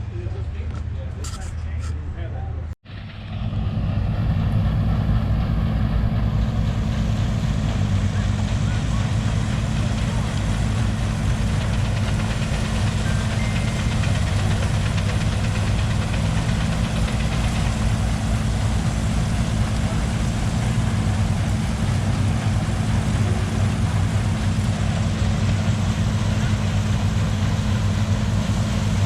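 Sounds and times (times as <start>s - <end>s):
engine idling: 2.9s - 29.0s.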